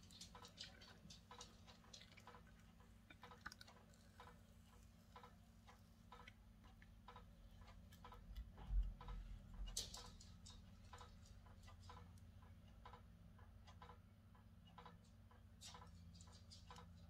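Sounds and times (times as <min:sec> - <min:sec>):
faint steady ticking: 0:00.0 - 0:17.0.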